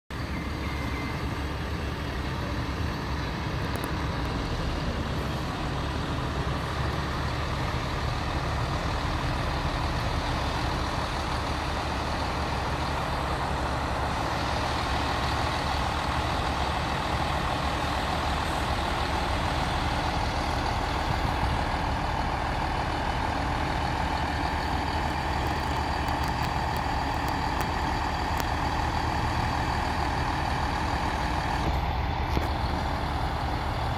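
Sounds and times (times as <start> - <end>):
train diesel engines running: 0.1 - 33.9.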